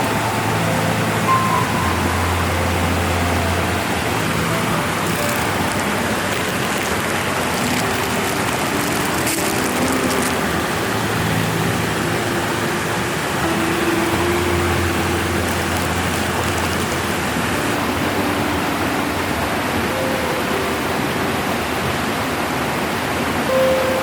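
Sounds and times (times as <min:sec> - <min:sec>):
soft sustained background music: 0:00.0 - 0:24.0
steady rushing hiss: 0:00.0 - 0:24.0.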